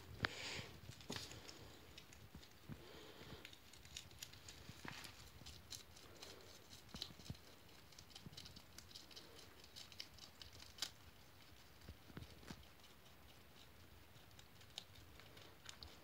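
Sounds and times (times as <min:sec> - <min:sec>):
guinea pig chewing leaf: 0:00.2 - 0:16.0.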